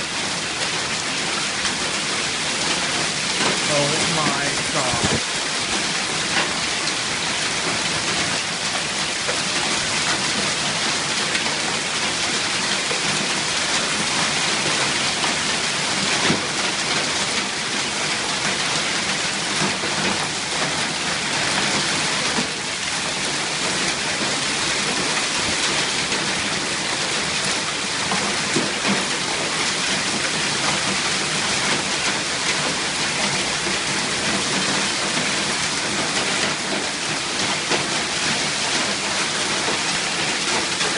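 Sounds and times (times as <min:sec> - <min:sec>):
hail and rain pounding: 0:00.0 - 0:40.9.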